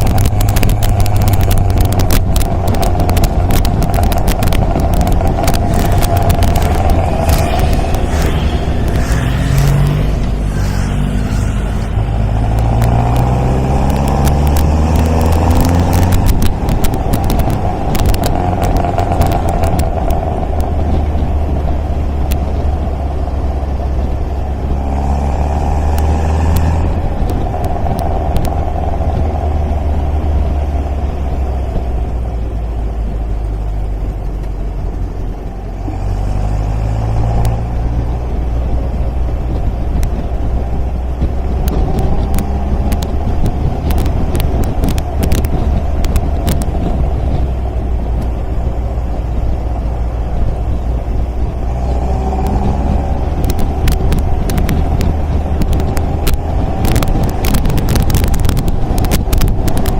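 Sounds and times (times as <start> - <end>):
sharp clicks and crackles: 0.0 - 22.6, 25.9 - 30.6, 33.5 - 59.9
car engine accelerating: 0.0 - 59.9.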